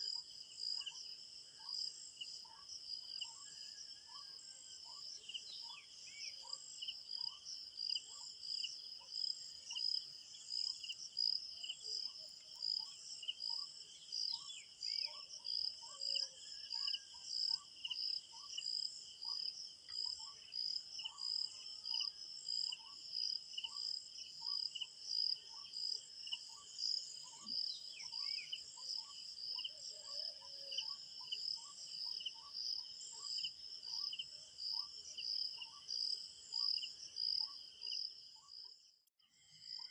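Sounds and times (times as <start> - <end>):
crickets chirping: 0.0 - 38.7.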